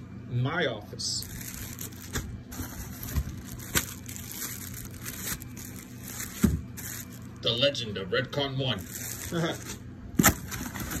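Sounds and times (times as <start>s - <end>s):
plastic bags crinkling: 1.2s - 7.6s, 8.5s - 11.0s.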